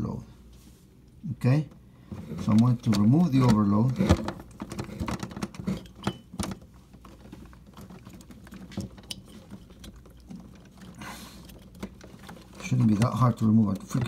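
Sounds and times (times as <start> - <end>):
fingers clicking on plastic part: 2.4 - 14.0.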